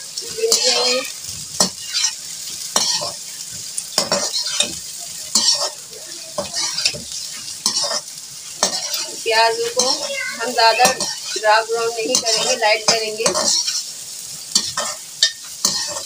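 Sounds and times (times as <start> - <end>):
onions sizzling in hot oil: 0.0 - 16.0
metal spoon scraping wok: 0.2 - 16.0.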